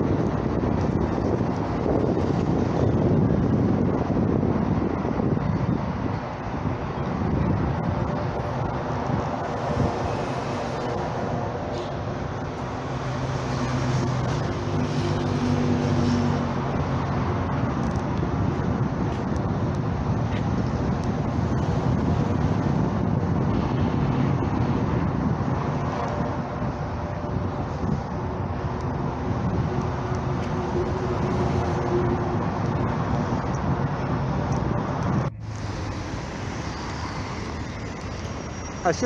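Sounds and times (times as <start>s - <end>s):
vehicle engine low hum: 0.0s - 38.9s
city street traffic: 0.0s - 39.0s.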